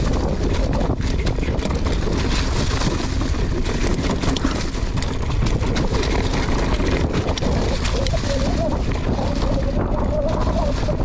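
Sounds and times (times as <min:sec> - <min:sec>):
bike rattling: 0:00.0 - 0:11.0
tyres rolling over leaves and rock: 0:00.0 - 0:11.0
wind on microphone: 0:00.0 - 0:11.0.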